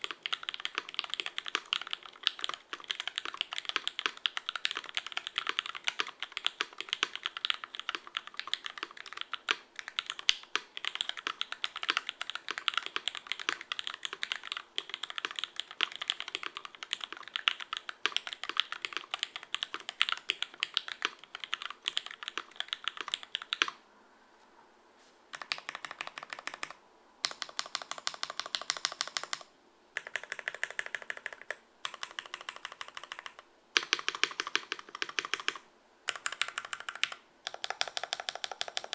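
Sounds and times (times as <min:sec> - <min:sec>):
fast mechanical keyboard typing: 0:00.0 - 0:23.8, 0:25.3 - 0:38.9.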